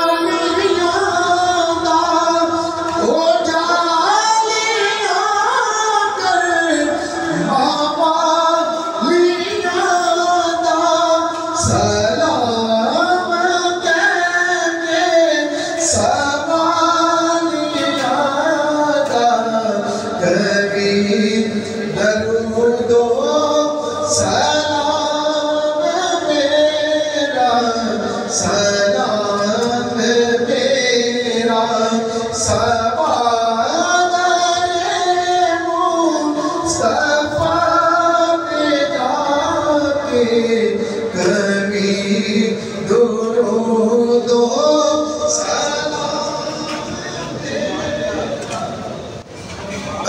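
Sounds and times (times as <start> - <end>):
man chanting over loudspeaker: 0.0 - 50.0.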